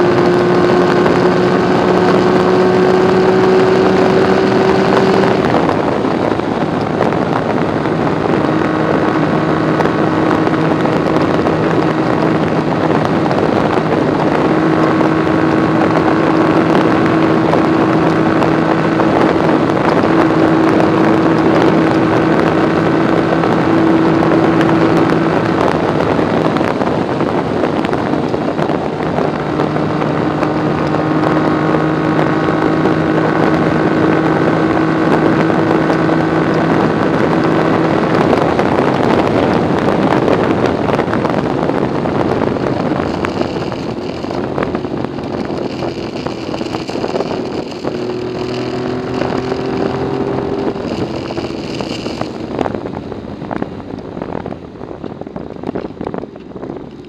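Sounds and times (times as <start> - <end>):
motorcycle engine cruising: 0.0 - 57.0
wind rush on microphone: 0.0 - 57.0.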